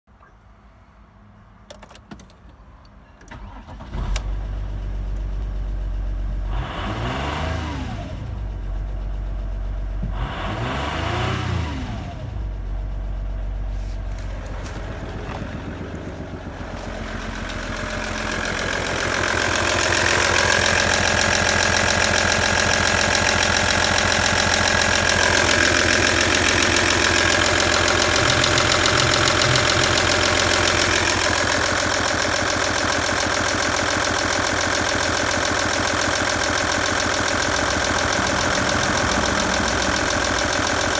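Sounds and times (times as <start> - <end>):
diesel engine idling: 3.3 - 7.2, 7.9 - 10.7, 12.0 - 40.9.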